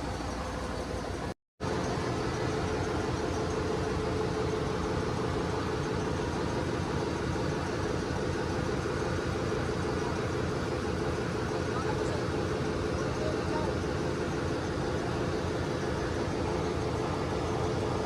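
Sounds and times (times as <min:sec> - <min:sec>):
engine-room machinery droning: 0:00.0 - 0:18.0.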